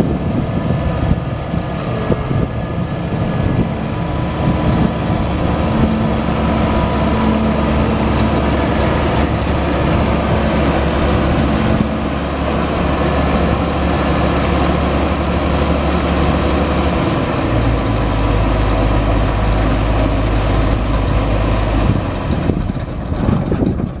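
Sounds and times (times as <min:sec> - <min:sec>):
combine engine running: 0:00.0 - 0:24.0.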